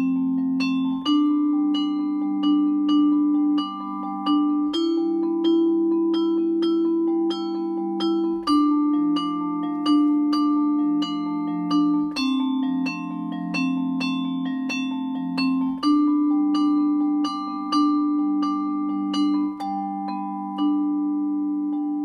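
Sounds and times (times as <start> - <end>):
vibraphone playing chords: 0.0 - 22.0.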